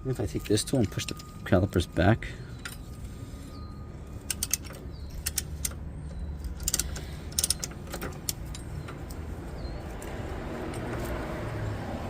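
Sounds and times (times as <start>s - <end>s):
metal tool clinking on brake caliper: 0.1s - 11.1s.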